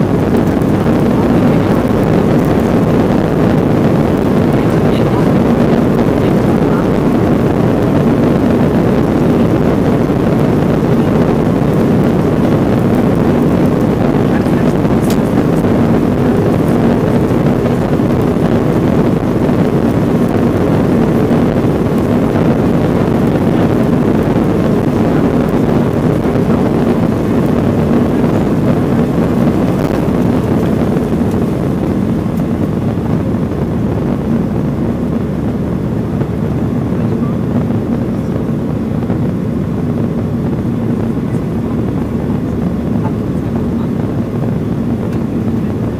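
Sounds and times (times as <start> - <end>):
aircraft cabin engine and airflow rush: 0.0 - 45.9
steady low hum: 0.0 - 45.9.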